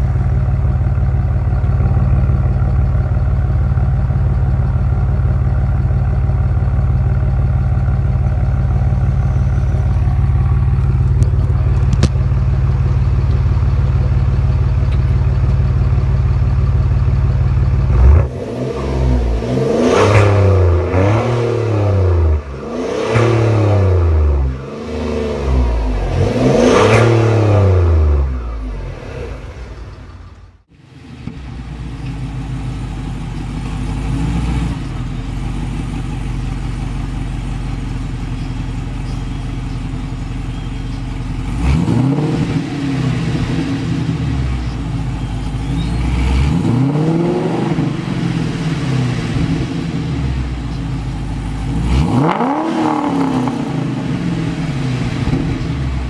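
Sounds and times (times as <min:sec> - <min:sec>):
car engine idling: 0:00.0 - 0:56.0
car engine revving: 0:00.0 - 0:56.0.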